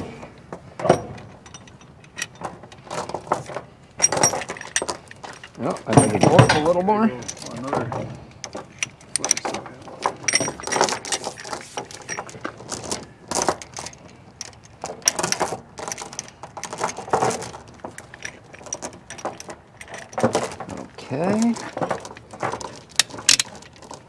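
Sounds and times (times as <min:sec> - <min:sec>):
steel chain clinking and rattling: 0:00.7 - 0:24.0.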